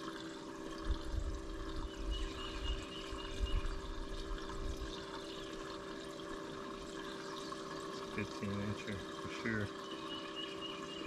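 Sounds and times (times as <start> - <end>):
steady low hum: 0.0 - 11.0
water running and splashing: 0.0 - 11.0.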